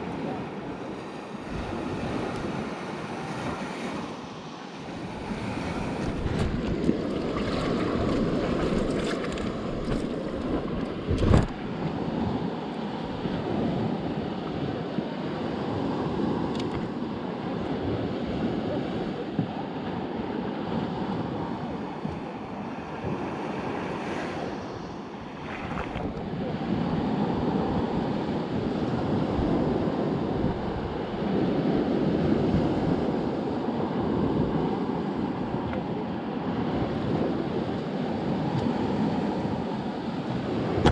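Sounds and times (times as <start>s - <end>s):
ocean water rushing: 0.0s - 40.9s
wind buffeting microphone: 4.9s - 24.6s, 25.3s - 40.9s.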